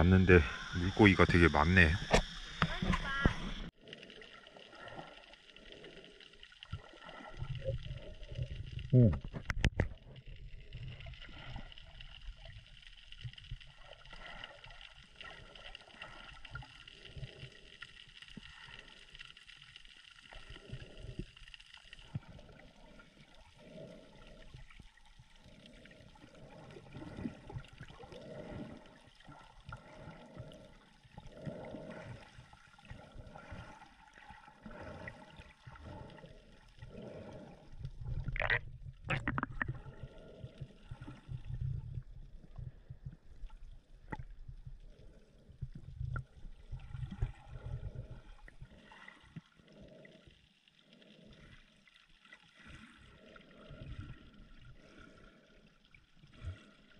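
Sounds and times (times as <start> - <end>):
muffled underwater water gurgling: 0.0 - 56.9.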